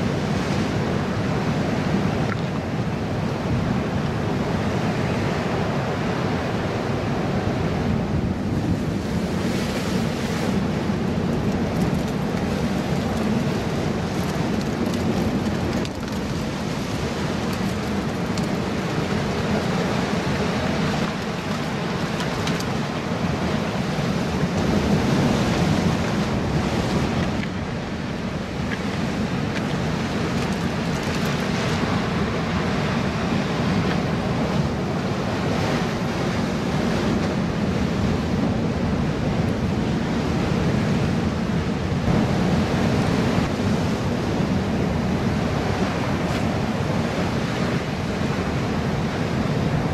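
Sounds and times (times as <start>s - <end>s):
ocean surf breaking on rocks: 0.0s - 49.9s.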